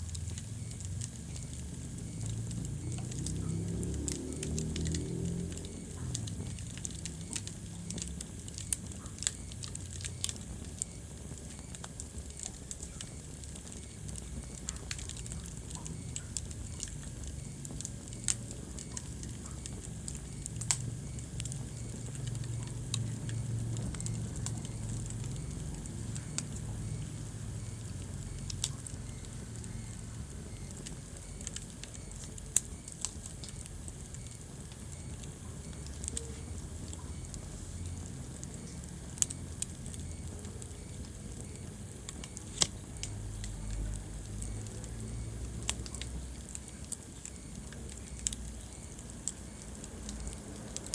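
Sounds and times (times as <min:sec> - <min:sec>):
low rumble of burning: 0:00.0 - 0:50.9
sharp pops from fire: 0:00.0 - 0:50.9
wood fire crackling: 0:00.0 - 0:50.9.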